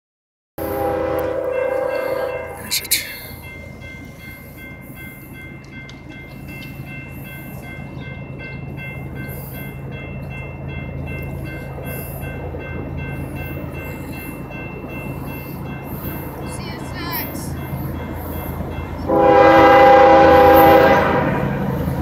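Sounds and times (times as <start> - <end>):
crossing warning bell ringing: 0.6 - 22.0
diesel locomotive engine hum: 0.6 - 22.0.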